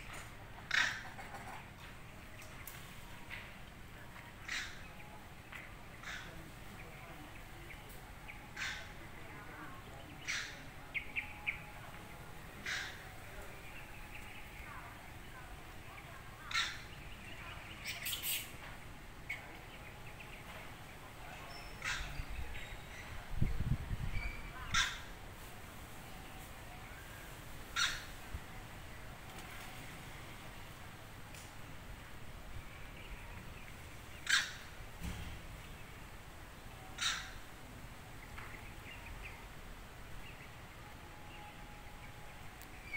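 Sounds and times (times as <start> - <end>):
birds calling: 0.0 - 25.2, 27.7 - 28.3, 32.6 - 42.9.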